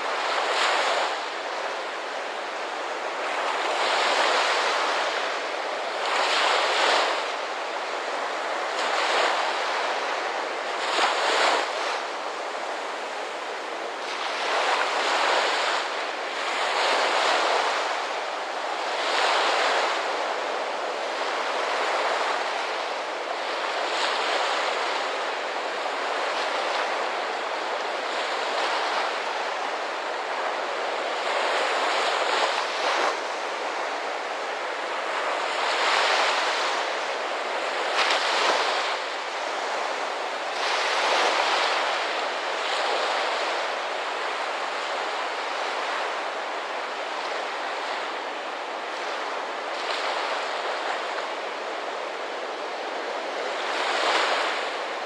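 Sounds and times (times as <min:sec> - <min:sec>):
small waves breaking: 0:00.0 - 0:55.0.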